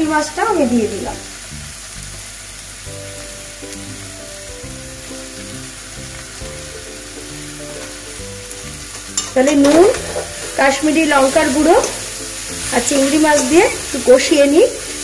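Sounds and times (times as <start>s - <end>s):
prawns sizzling in oil: 0.0s - 15.0s
slow background music: 0.0s - 15.0s.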